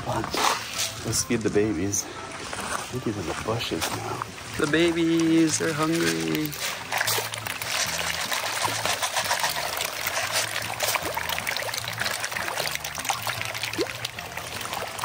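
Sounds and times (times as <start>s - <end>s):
fish splashing and slurping: 0.0s - 15.0s
water trickling: 0.0s - 15.0s.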